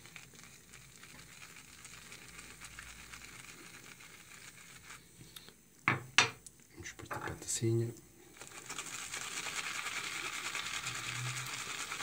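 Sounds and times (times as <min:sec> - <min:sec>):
shaving brush swirling on soap: 0:00.0 - 0:05.6, 0:07.4 - 0:12.0.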